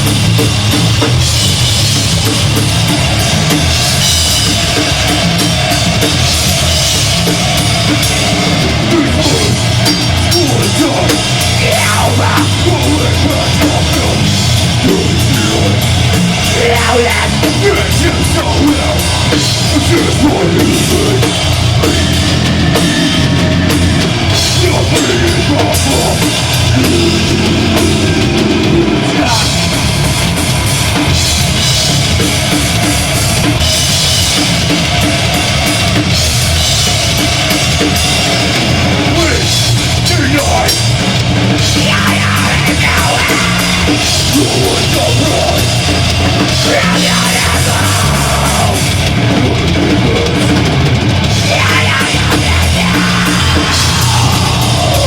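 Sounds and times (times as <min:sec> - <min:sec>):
live heavy metal music: 0:00.0 - 0:55.0
pounding drum kit: 0:00.0 - 0:55.0.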